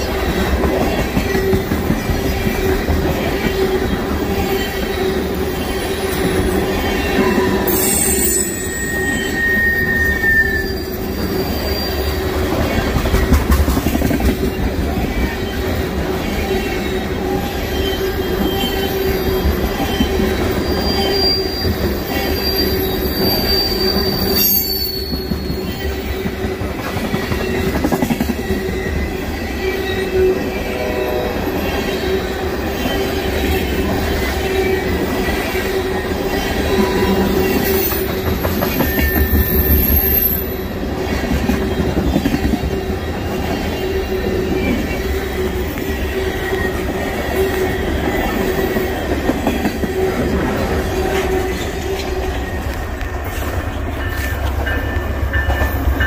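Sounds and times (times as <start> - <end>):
train wheels rumbling on rail: 0.0 - 56.0
high-pitched wheel squeals: 2.3 - 12.8, 14.4 - 26.6, 27.2 - 52.9.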